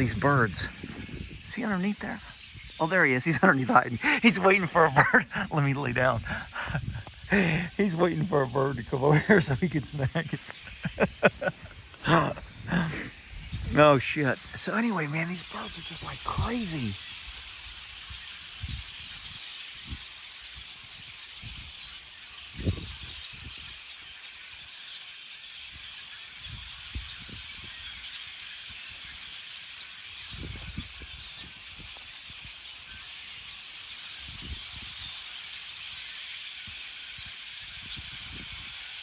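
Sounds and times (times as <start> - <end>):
flock of birds chattering: 0.0 - 39.0.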